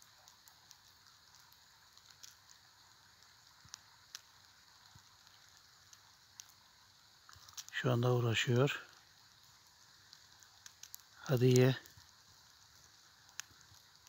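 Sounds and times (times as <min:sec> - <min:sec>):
quiet hiss: 0:00.0 - 0:14.0
wet snow ticking: 0:00.0 - 0:14.0.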